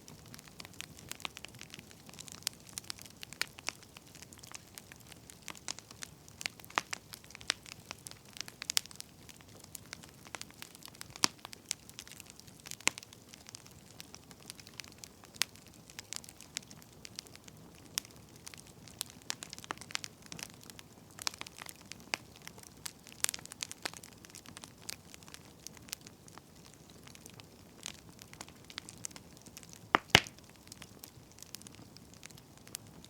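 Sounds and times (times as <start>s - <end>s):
faint low hiss: 0.0s - 33.0s
wood fire crackling: 0.0s - 33.0s.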